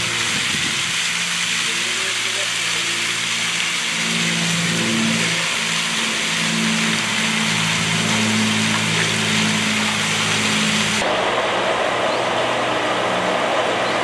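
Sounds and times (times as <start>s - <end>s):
motor hum: 0.0s - 14.0s.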